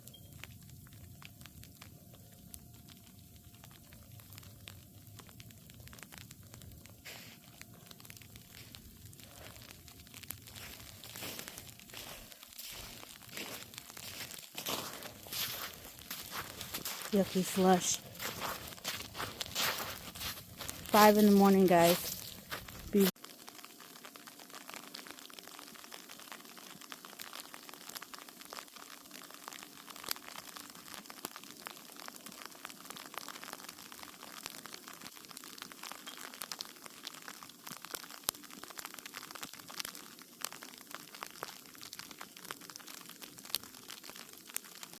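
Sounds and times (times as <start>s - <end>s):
sleet pellets pattering on ice: 5.2s - 45.0s.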